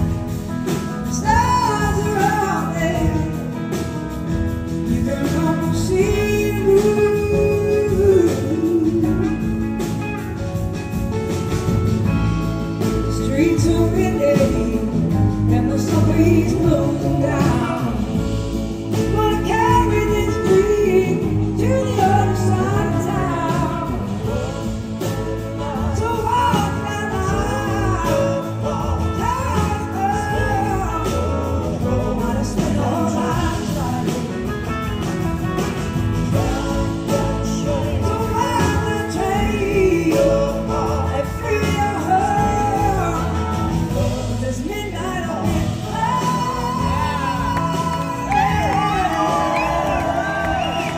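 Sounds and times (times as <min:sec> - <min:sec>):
woman singing: 0:00.0 - 0:03.9, 0:04.7 - 0:10.3, 0:12.8 - 0:50.9
blues-rock band playing: 0:00.0 - 0:50.9
electric guitar: 0:00.0 - 0:50.9.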